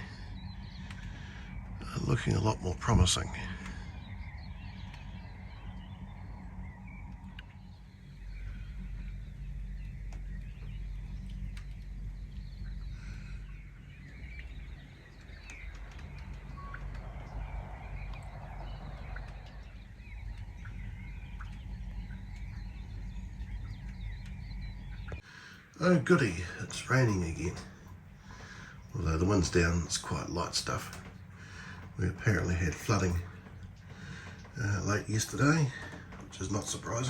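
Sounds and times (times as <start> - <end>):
birds chirping and calling: 0.0 - 37.0
low steady rumble: 0.0 - 37.0.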